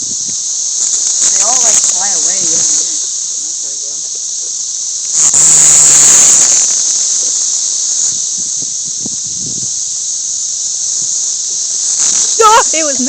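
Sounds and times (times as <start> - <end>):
cicada buzzing squawk: 0.0 - 13.0
cicada chorus droning: 0.0 - 13.0.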